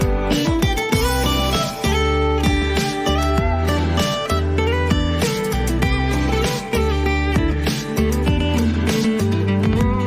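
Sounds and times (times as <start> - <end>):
deep bass: 0.0 - 10.0
strummed guitar: 0.0 - 10.0.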